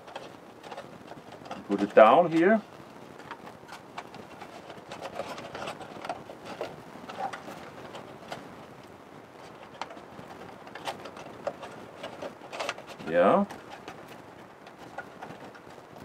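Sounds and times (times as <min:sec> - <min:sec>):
birch bark rustling: 0:00.0 - 0:16.0.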